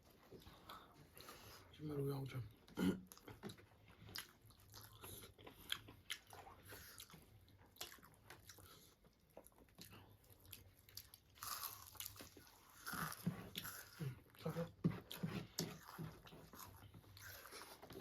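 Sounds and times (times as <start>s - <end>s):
chewing crunchy food: 2.7s - 18.0s.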